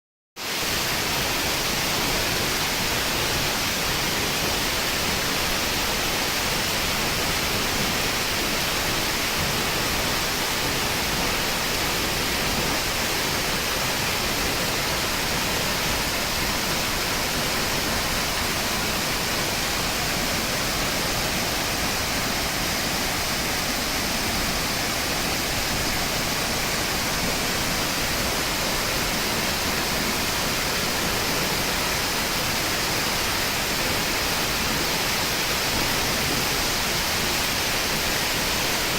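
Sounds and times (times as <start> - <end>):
waterfall rushing: 0.4 - 38.9.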